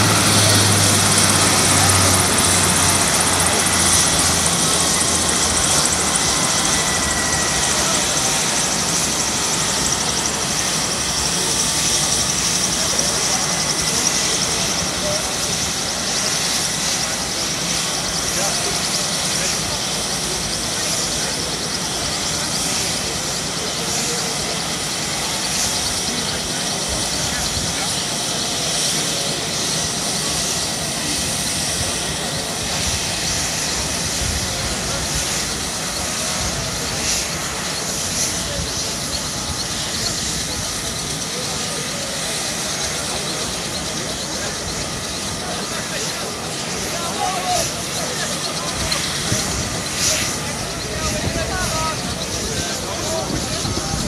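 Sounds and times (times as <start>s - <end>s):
helicopter engine whine: 0.0s - 54.0s
rotor pulsing: 0.0s - 54.0s.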